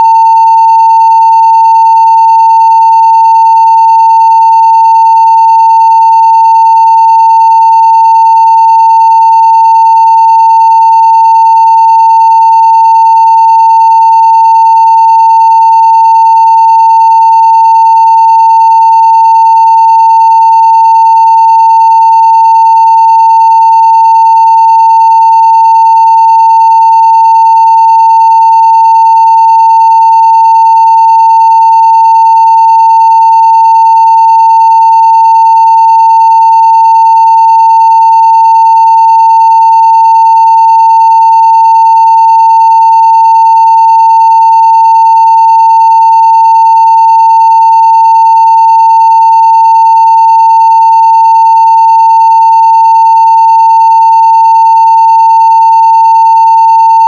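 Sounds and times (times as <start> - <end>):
sine-wave test tone: 0.0 - 57.0.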